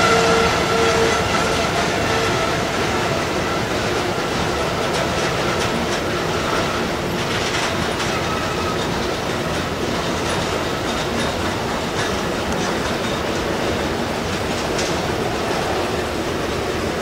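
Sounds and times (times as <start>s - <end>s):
wheels clicking over rails: 0.0s - 17.0s.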